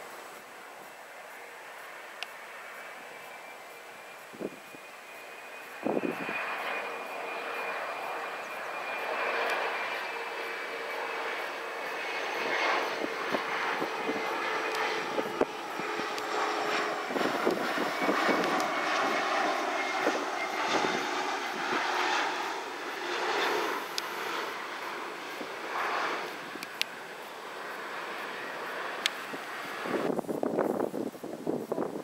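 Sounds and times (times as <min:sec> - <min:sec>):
steady humming tone: 0:00.0 - 0:32.0
jet noise rushing: 0:03.8 - 0:32.0.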